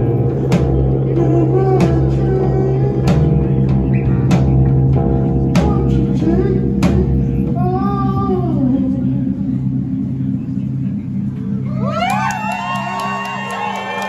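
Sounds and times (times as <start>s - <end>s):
live band music: 0.0s - 12.2s.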